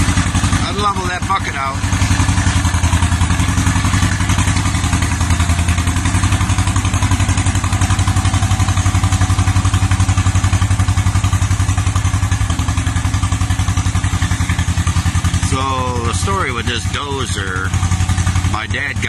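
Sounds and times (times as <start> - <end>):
bulldozer engine putt-putt: 0.0 - 19.0.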